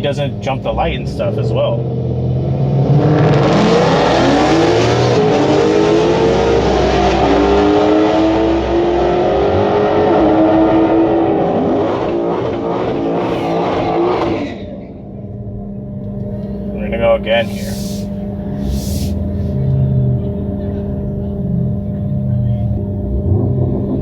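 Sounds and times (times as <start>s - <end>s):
car accelerating with whine: 0.0s - 24.0s.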